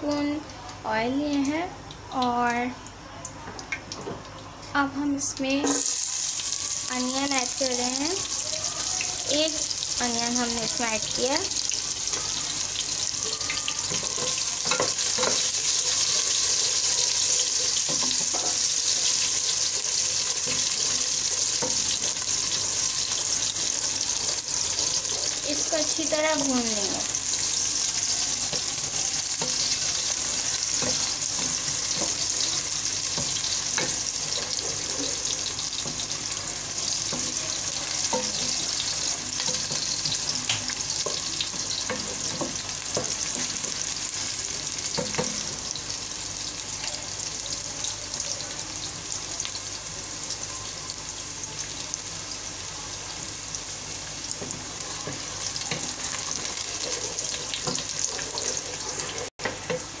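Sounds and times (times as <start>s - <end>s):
onions sizzling in oil: 3.6s - 60.0s.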